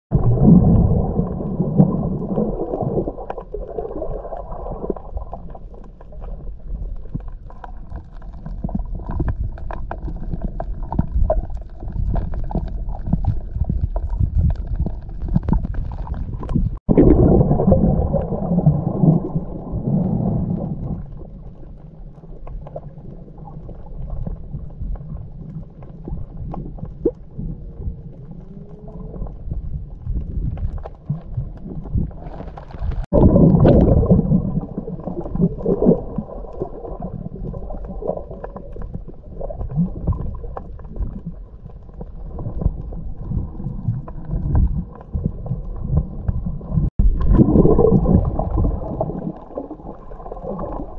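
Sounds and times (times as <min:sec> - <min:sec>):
muffled underwater rumble: 0:00.1 - 0:50.9
underwater clicks and crackles: 0:00.1 - 0:50.9.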